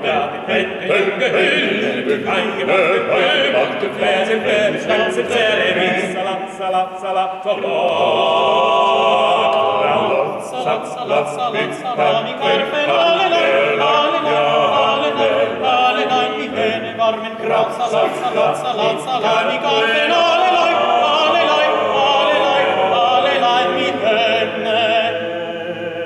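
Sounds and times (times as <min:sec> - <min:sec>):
male vocal quartet singing: 0:00.0 - 0:26.0.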